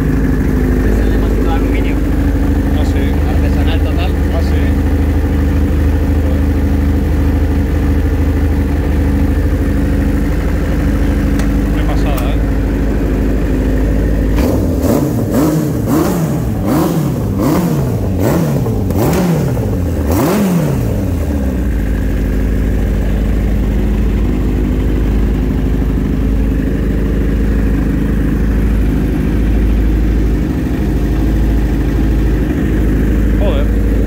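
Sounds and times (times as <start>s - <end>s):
motorcycle engine idling: 0.0s - 34.0s
motorcycle engine revving: 0.0s - 34.0s.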